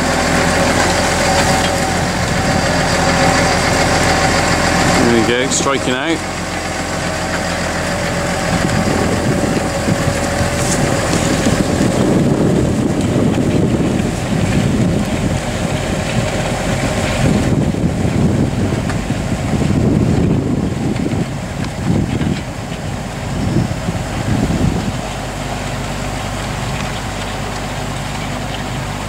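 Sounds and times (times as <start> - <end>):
tractor engine under load: 0.0 - 29.0.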